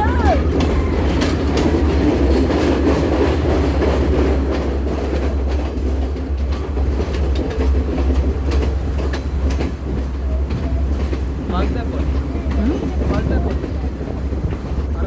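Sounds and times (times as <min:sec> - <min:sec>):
train rumbling along track: 0:00.0 - 0:15.0
wheels clicking over rails: 0:00.0 - 0:15.0.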